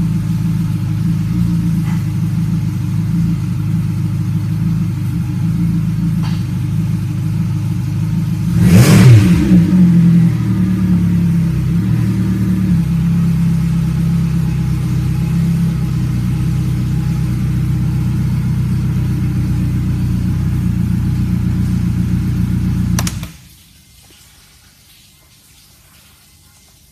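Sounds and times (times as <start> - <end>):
outboard engine idling: 0.0 - 8.6, 9.8 - 23.4.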